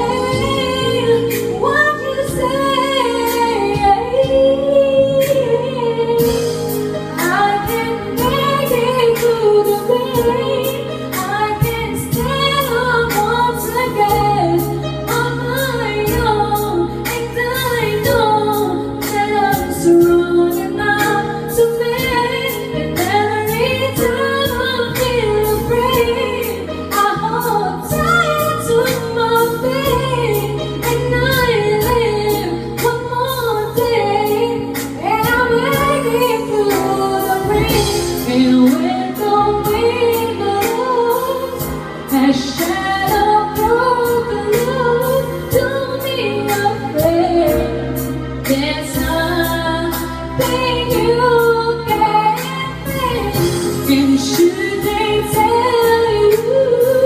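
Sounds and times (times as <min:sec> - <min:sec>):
backing track with steady beat: 0:00.0 - 0:57.0
woman singing pop song: 0:00.0 - 0:57.0.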